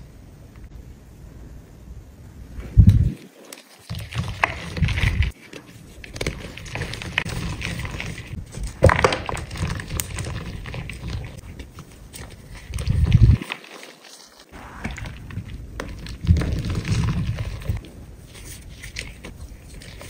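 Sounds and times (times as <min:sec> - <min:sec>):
chalk crunching and crumbling: 0:03.1 - 0:20.0.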